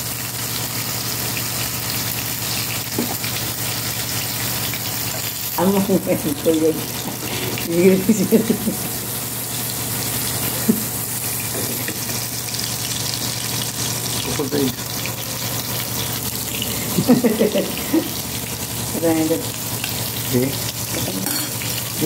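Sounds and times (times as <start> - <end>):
bacon sizzling in a frying pan: 0.0 - 22.0.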